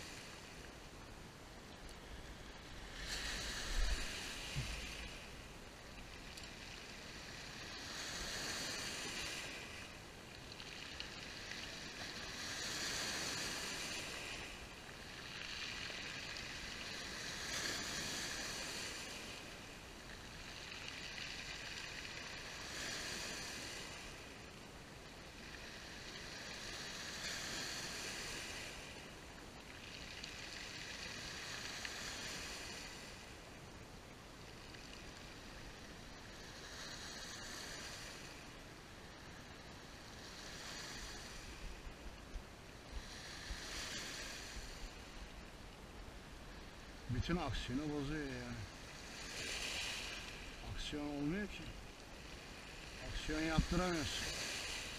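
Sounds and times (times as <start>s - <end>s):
waves breaking on pebble beach: 0.0s - 0.6s, 1.9s - 33.5s, 34.5s - 38.6s, 39.4s - 42.0s, 43.0s - 45.3s, 46.7s - 54.9s.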